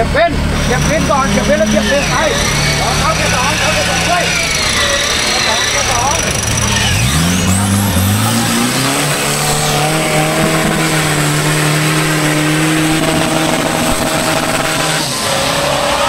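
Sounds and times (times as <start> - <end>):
engine revving high: 0.0 - 16.0.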